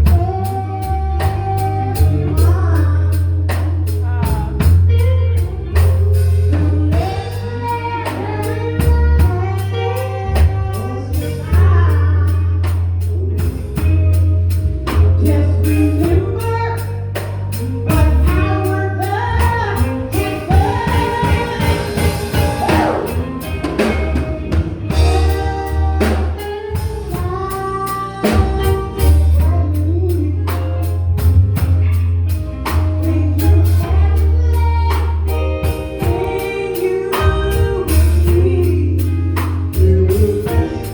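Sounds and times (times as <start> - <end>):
drum kit: 0.0 - 40.9
gospel band singing: 0.0 - 40.9
guitar: 0.0 - 40.9
keyboard: 0.0 - 40.9.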